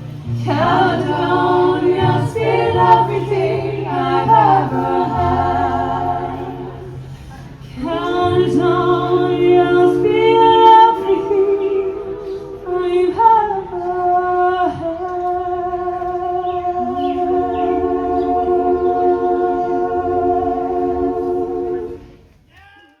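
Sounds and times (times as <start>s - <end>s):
group singing in close harmony: 0.0s - 22.2s.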